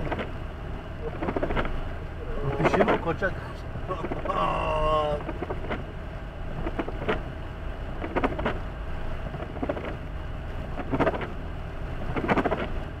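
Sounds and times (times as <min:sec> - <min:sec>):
engine and tyre rumble in car: 0:00.0 - 0:13.0.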